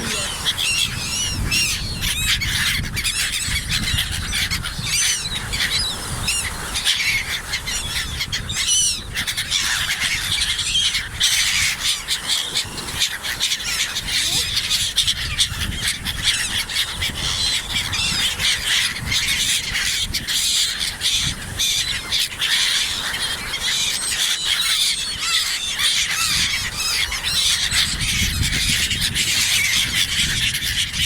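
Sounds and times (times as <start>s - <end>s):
low rumble of wind: 0.0s - 23.8s, 24.7s - 31.0s
gulls calling and squawking: 0.0s - 31.0s.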